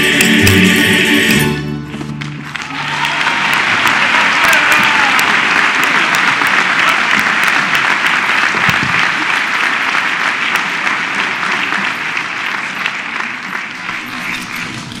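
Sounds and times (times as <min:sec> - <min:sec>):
large audience applauding: 0:02.2 - 0:15.0.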